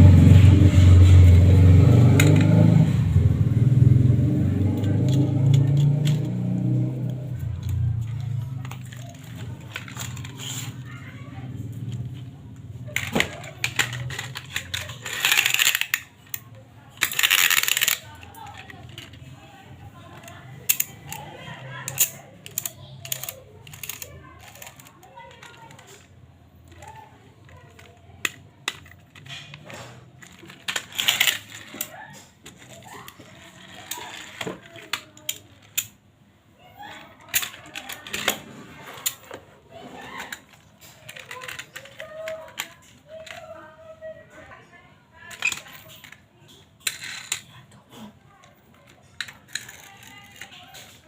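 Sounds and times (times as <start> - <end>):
toy cars clicking together: 0.2 - 44.6, 45.2 - 51.0.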